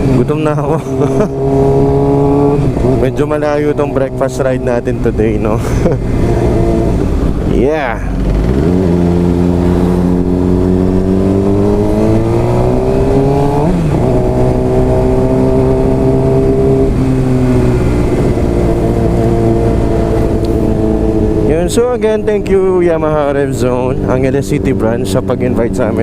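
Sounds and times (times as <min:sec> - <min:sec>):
gear change: 0:00.0 - 0:26.0
low wind rumble: 0:00.0 - 0:26.0
motorcycle engine revving: 0:00.0 - 0:26.0.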